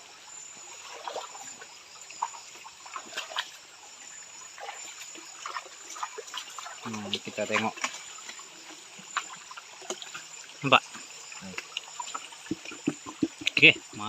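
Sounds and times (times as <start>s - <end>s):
high insect trill: 0.0s - 14.0s
stream water trickling: 0.0s - 14.0s
water splashes and drips: 0.0s - 14.0s.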